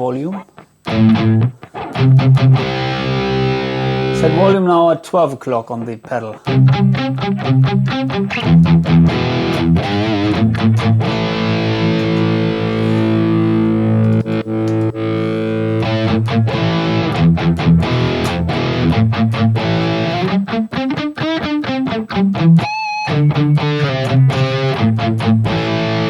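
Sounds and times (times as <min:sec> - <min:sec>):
overdriven electric guitar riff: 0:00.5 - 0:04.6, 0:06.4 - 0:26.0.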